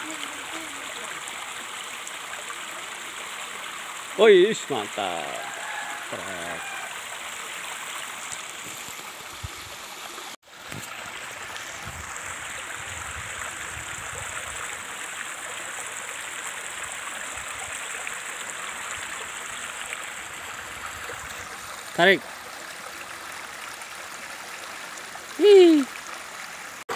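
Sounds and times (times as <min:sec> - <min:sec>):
stream running over rocks: 0:00.0 - 0:26.9.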